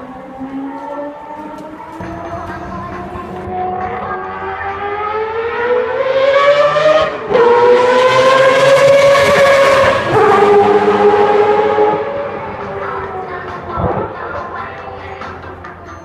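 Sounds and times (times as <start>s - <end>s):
racing engine accelerating: 0.0s - 14.2s.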